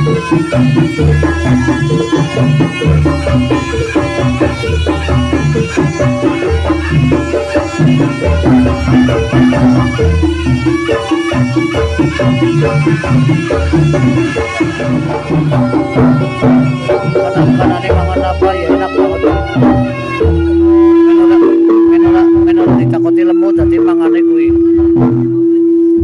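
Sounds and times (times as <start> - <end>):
drums and tuned percussion: 0.0 - 26.0.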